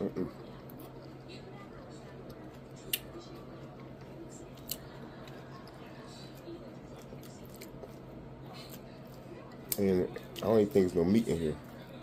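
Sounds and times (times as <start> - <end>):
eating sounds: 0.2 - 10.8.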